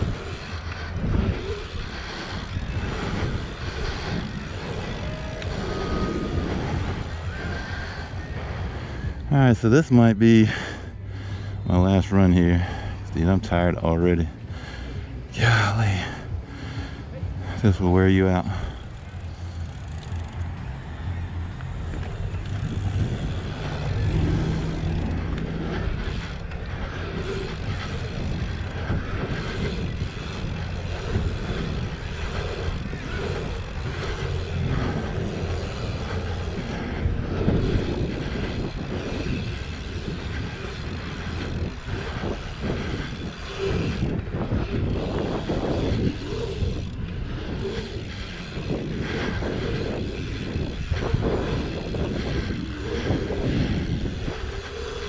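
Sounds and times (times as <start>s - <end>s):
uneven rumble: 0.0s - 55.0s
wind buffeting microphone: 0.0s - 55.0s.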